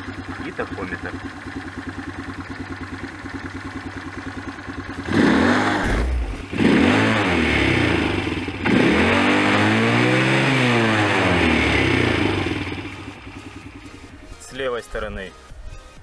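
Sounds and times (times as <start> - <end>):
quad engine idling and revving: 0.0 - 15.1.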